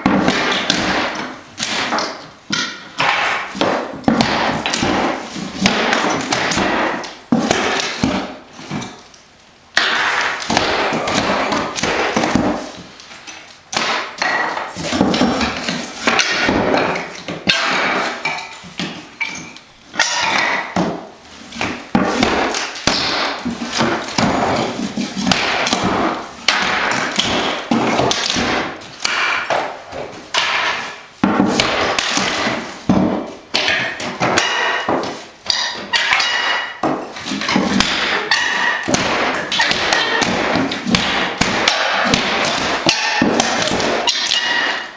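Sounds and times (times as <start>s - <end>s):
hammer blows on floorboards: 0.0s - 9.0s, 9.8s - 13.0s, 13.7s - 44.9s.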